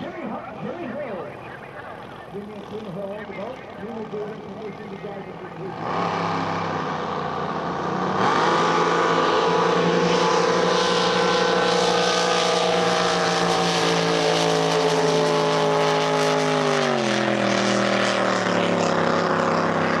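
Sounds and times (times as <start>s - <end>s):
racing jet boat engines roaring: 0.0s - 20.0s.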